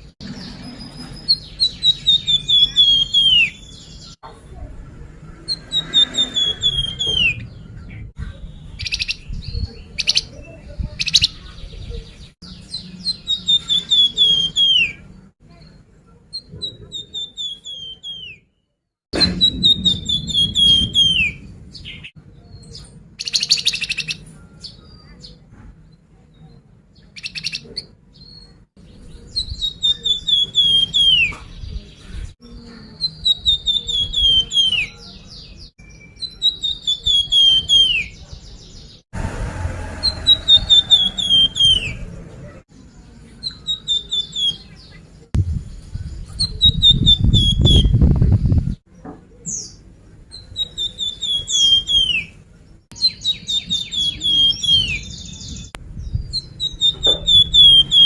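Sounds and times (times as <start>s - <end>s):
bird chirps: 0.0s - 4.7s, 5.4s - 18.6s, 19.2s - 25.4s, 26.3s - 39.0s, 40.2s - 58.0s
songbird whistling song: 0.3s - 4.2s, 5.5s - 18.5s, 19.2s - 25.4s, 26.4s - 31.9s, 32.9s - 39.0s, 40.3s - 42.1s, 43.4s - 48.8s, 49.5s - 58.0s.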